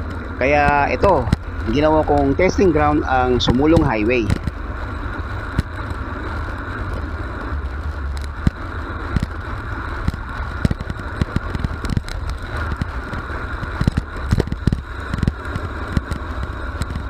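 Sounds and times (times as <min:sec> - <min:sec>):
deep road rumble: 0:00.0 - 0:17.0
wind rushing over microphone: 0:00.0 - 0:17.0.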